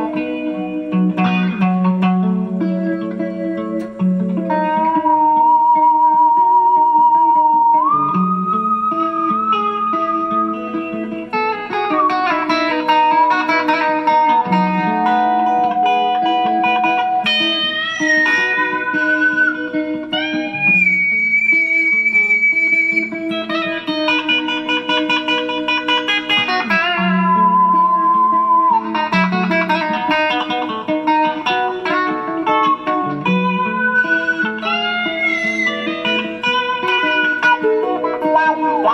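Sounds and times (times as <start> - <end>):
electric guitar sustained notes: 0.0 - 38.9
low guitar drone: 0.0 - 38.9.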